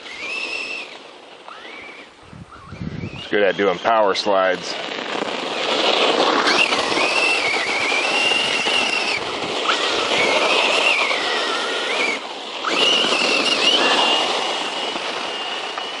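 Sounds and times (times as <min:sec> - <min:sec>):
electric motor whining: 0:00.0 - 0:16.0
tyres rushing in dirt: 0:00.0 - 0:16.0.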